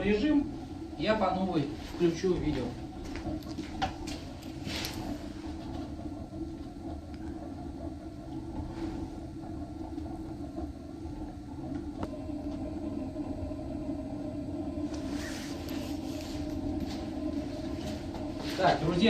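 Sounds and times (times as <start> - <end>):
stove flame rumbling: 0.0 - 19.0.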